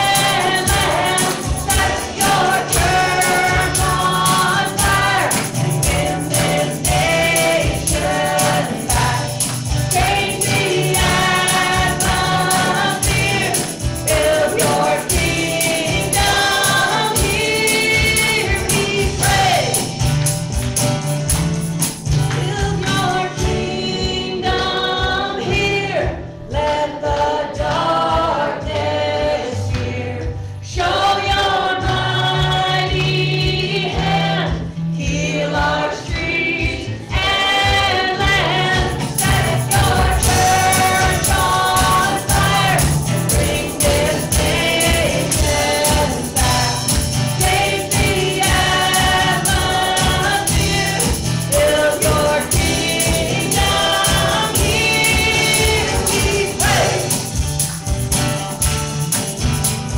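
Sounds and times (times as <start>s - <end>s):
choir singing: 0.0s - 20.0s, 23.1s - 57.4s
instrumental backing with bass: 0.0s - 59.9s
percussion: 0.0s - 59.9s.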